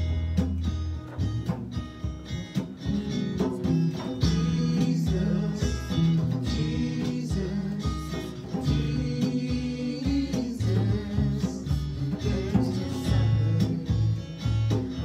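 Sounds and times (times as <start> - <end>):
low bass notes: 0.0 - 15.0
strummed guitar: 0.0 - 15.0.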